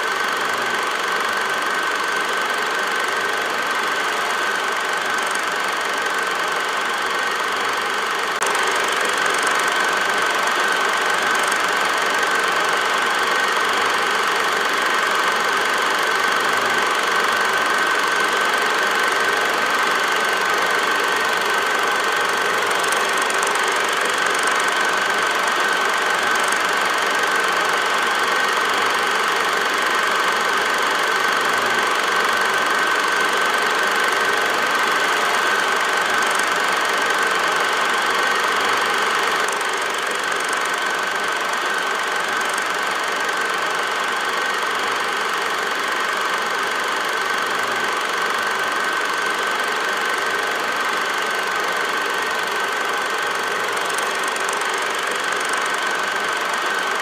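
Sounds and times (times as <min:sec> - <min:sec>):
film projector whirring: 0:00.0 - 0:57.0.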